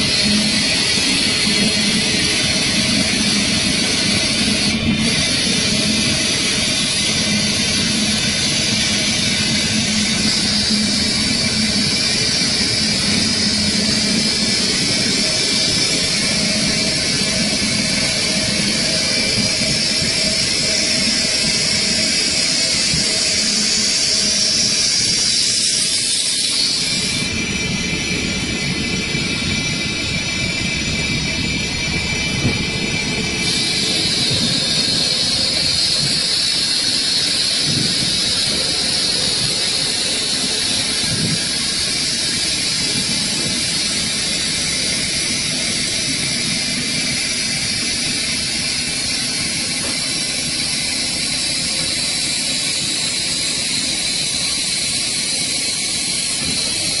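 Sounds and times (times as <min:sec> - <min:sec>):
hiss of wood being cut: 0:00.0 - 0:27.4, 0:29.1 - 0:57.0.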